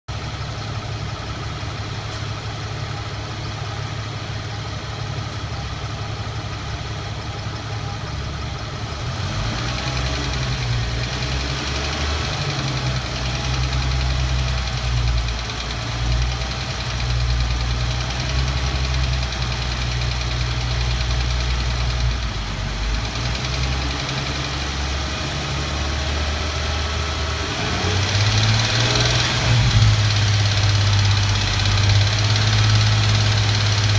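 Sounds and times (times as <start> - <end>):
car engine running: 0.1 - 33.9.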